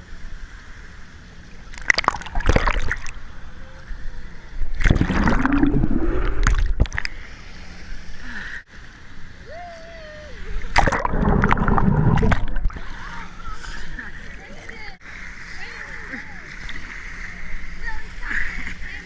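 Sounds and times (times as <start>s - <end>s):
water splashing and sloshing: 1.1s - 3.5s, 4.3s - 9.5s, 10.4s - 19.0s.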